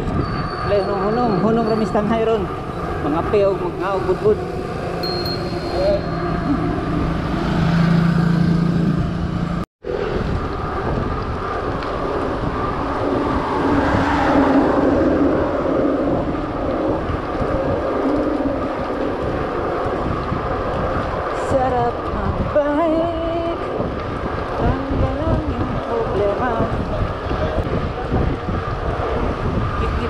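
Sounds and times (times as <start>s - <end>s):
bike tyre and road noise: 0.0s - 30.0s
wind rushing over microphone: 0.0s - 30.0s.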